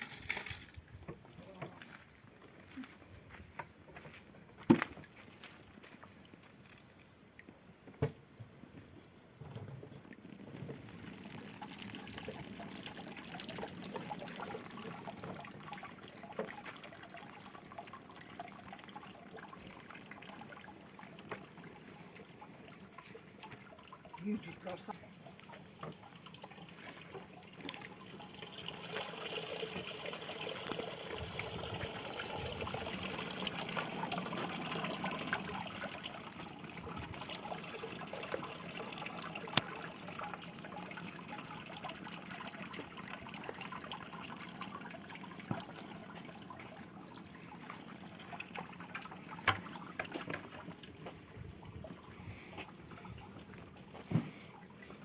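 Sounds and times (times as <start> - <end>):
liquid trickling: 0.0 - 3.4, 9.3 - 55.0.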